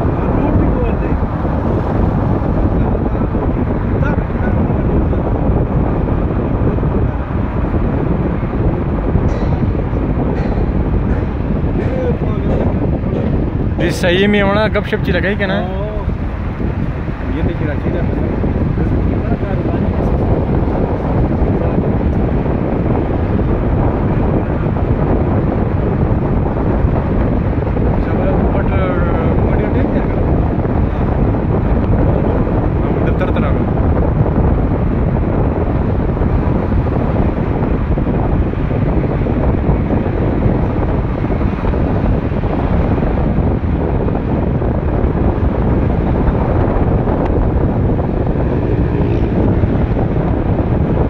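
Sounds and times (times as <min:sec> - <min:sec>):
vehicle road and engine noise: 0:00.0 - 0:51.0
wind rushing over microphone: 0:00.0 - 0:51.0.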